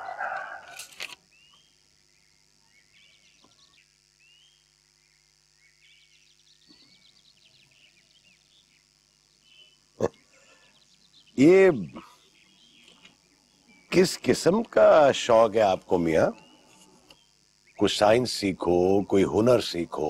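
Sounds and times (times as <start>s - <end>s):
low steady hum: 0.0s - 20.0s
small birds chirping: 0.0s - 20.0s.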